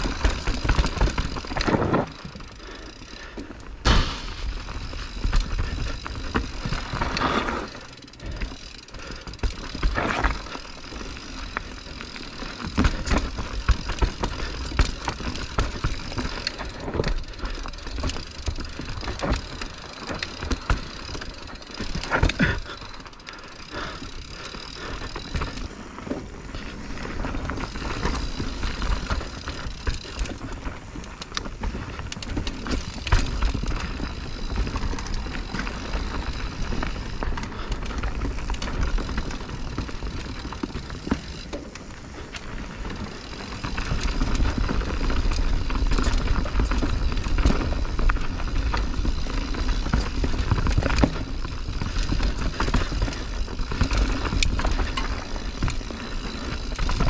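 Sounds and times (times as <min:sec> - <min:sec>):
bike chain and frame rattling: 0:00.0 - 0:57.0
bike tyres rolling on dirt: 0:00.0 - 0:57.0.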